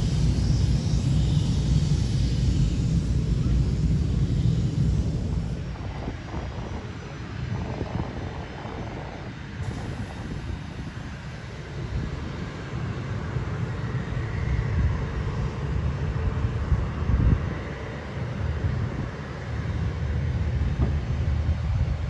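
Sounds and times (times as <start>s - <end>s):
distant aircraft engines droning: 0.0s - 22.0s.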